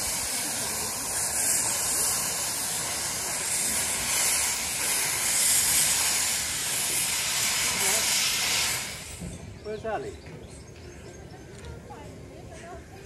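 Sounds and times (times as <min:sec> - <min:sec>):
steam hissing from locomotive: 0:00.0 - 0:11.2.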